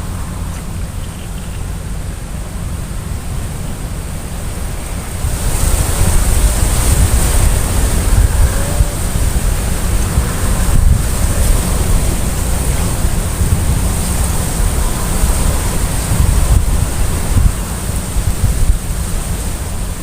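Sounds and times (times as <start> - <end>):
steady high hiss: 0.0 - 20.0
wind buffeting microphone: 0.0 - 20.0.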